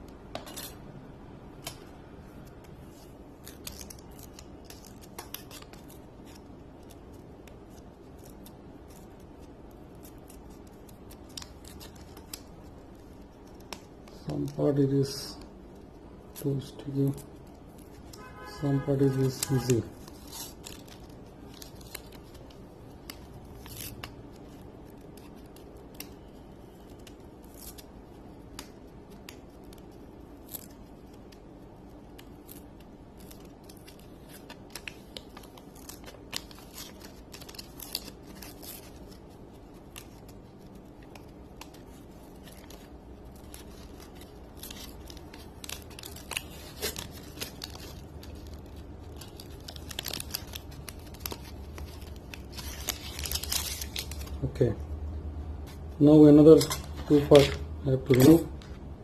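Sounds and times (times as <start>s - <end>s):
low steady hum: 0.0s - 59.0s
protective paper peeling crackles: 1.6s - 54.6s, 55.6s - 58.8s.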